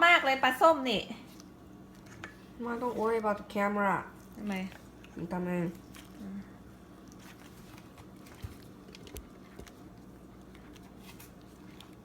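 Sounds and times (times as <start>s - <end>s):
low steady hum: 0.0s - 12.0s
wet squishing of batter: 1.2s - 12.0s.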